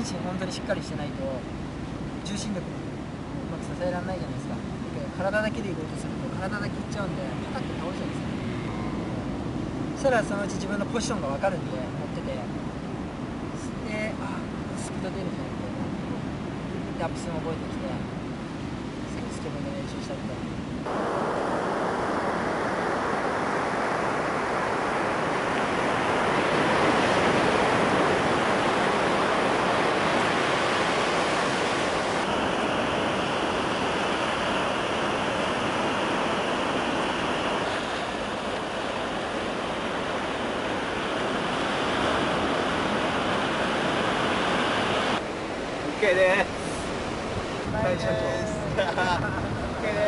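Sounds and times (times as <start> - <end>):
ocean waves breaking: 0.0 - 50.0.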